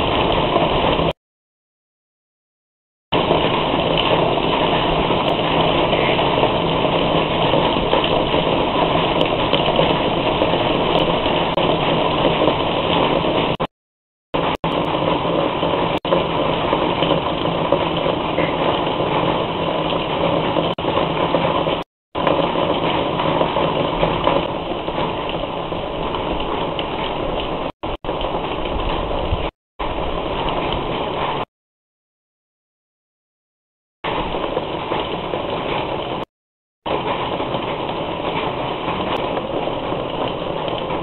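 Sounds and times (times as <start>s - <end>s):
rain falling: 0.0s - 1.2s, 3.1s - 13.7s, 14.4s - 31.5s, 34.1s - 36.3s, 36.9s - 41.0s.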